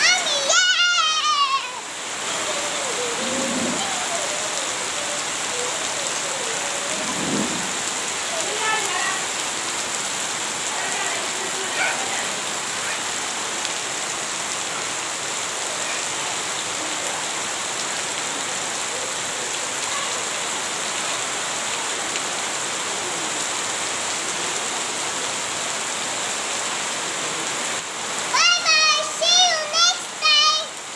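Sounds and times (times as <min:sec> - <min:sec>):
rain falling on grass and puddles: 0:00.0 - 0:30.9.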